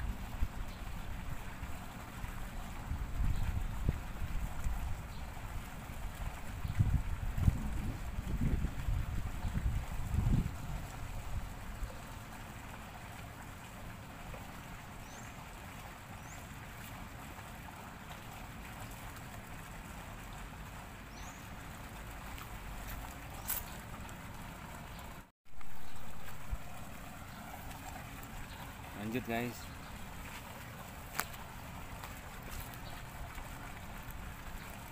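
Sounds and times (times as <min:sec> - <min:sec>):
water at a pond: 0:00.0 - 0:34.9
wind: 0:00.0 - 0:34.9.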